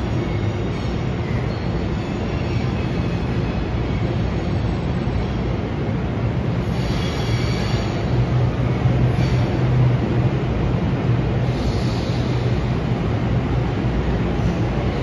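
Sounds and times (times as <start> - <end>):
train humming and rumbling: 0.0 - 15.0.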